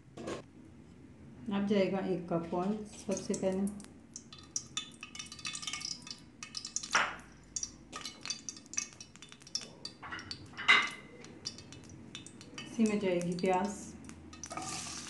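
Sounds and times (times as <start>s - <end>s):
hot oil crackling and popping: 2.8s - 15.0s.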